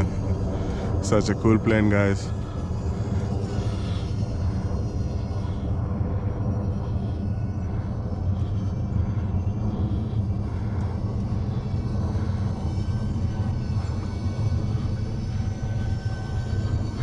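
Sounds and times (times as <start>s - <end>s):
electric ducted fans whining: 0.0s - 17.0s
wind rumble on microphone: 0.0s - 17.0s.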